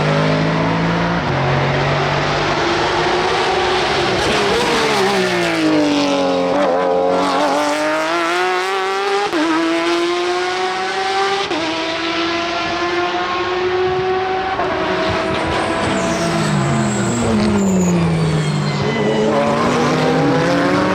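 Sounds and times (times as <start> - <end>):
race car engine accelerating: 0.0 - 20.9.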